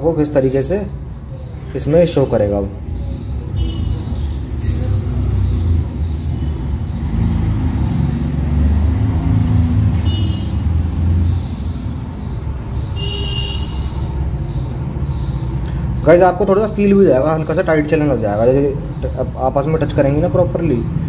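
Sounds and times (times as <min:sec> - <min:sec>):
passing vehicle engine rumble: 0:00.0 - 0:21.0.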